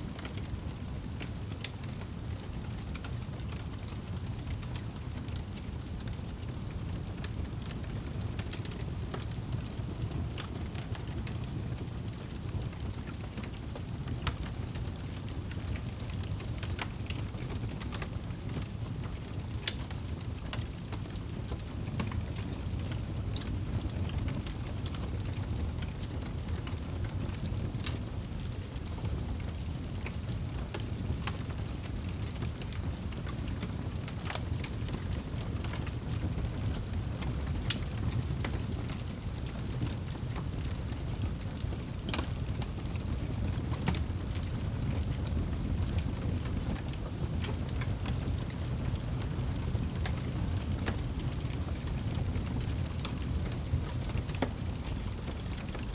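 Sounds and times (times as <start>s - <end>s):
fire crackles and pops: 0.0s - 55.9s
flames rumbling: 0.0s - 55.9s.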